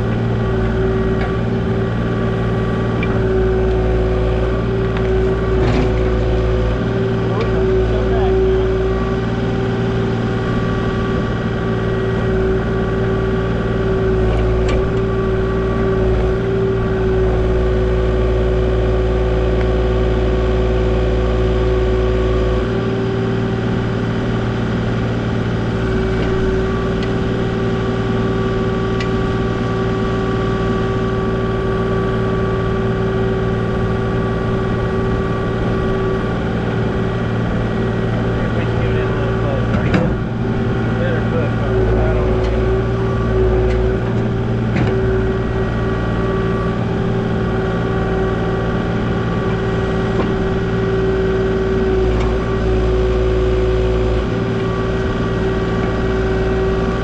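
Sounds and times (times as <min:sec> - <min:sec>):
mini excavator diesel engine running: 0:00.0 - 0:57.0.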